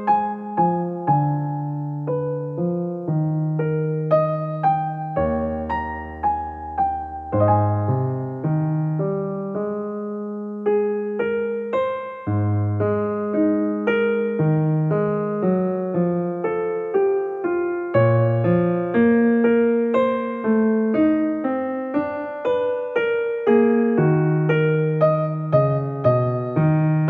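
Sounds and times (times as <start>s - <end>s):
gentle piano notes: 0.0s - 27.0s.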